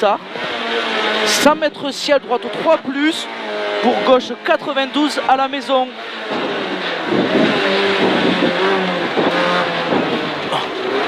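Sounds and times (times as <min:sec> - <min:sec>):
car engine pulling hard: 0:00.0 - 0:11.0
road and tyre noise: 0:00.0 - 0:11.0.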